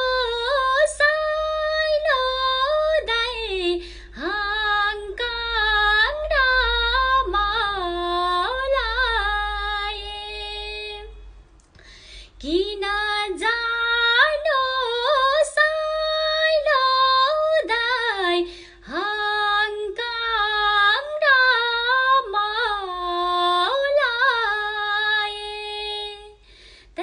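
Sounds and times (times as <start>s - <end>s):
woman singing unaccompanied: 0.0s - 11.3s, 12.4s - 26.4s.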